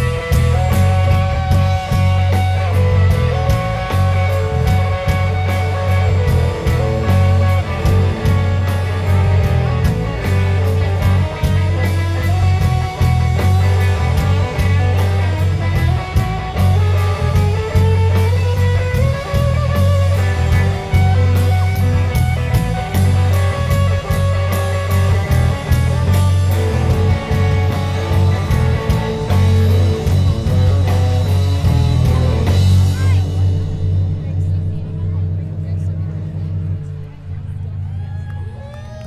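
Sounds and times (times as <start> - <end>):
drum kit beat with cymbals: 0.0 - 37.8
electric guitar lines: 0.0 - 39.0
heavy bass guitar: 0.0 - 39.0.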